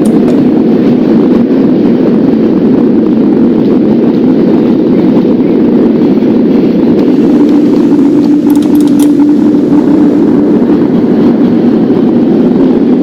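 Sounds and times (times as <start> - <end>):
subway train rumbling on track: 0.0 - 13.0.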